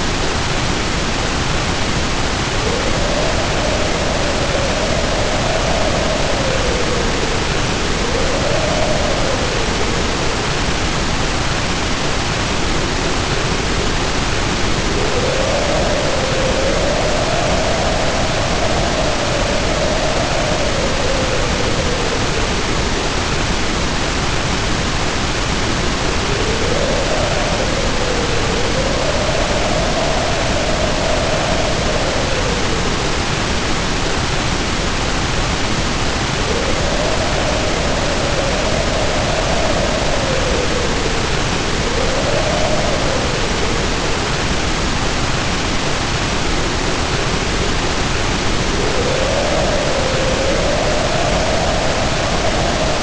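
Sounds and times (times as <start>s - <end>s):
heavy rain pouring: 0.0s - 53.0s
wind howling: 0.0s - 53.0s.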